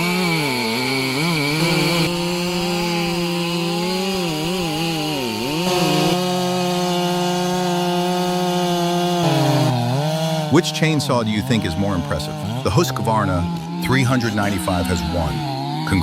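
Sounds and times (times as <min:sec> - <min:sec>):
chainsaw cutting timber: 0:00.0 - 0:16.0.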